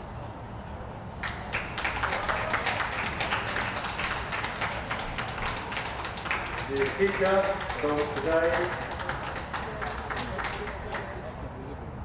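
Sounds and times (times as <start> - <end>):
audience clapping: 1.2 - 11.2.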